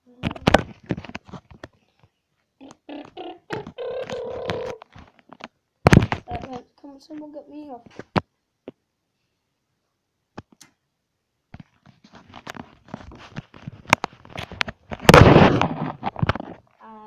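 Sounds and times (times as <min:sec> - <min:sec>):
crackly rustling and scraping: 0:00.0 - 0:08.8, 0:11.5 - 0:16.8.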